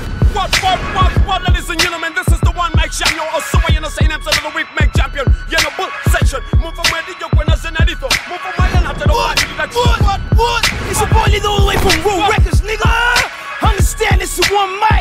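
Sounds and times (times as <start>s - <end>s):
hip-hop beat with kick drum: 0.0s - 15.0s
man rapping: 0.2s - 15.0s.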